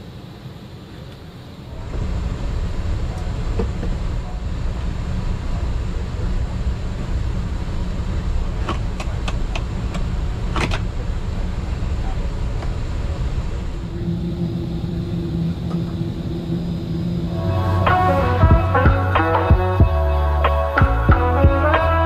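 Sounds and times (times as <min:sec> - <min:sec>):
moving vehicle low rumble: 0:00.0 - 0:21.8.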